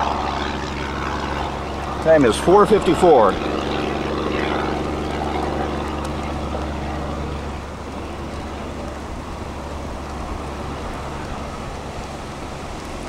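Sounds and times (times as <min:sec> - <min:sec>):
vehicle engine hum: 0:00.0 - 0:13.0
wind rush: 0:00.0 - 0:13.0.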